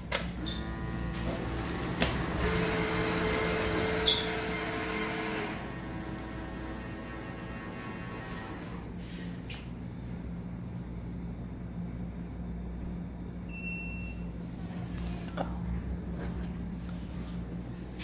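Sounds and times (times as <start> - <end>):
vending machine humming: 0.0 - 18.0.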